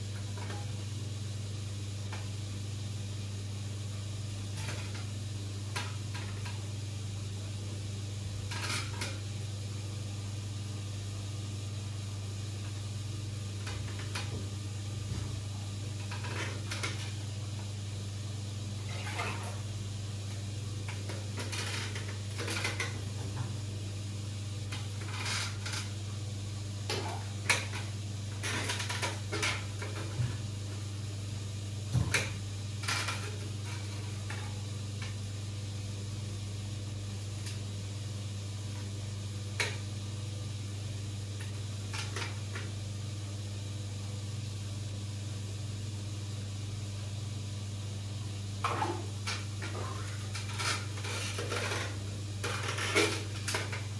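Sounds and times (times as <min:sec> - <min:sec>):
aquarium equipment humming: 0:00.0 - 0:53.9.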